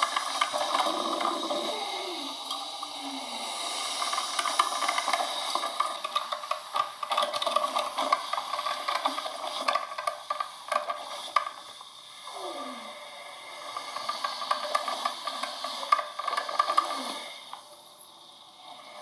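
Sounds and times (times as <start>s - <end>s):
coffee machine hissing and sputtering: 0.0s - 19.0s.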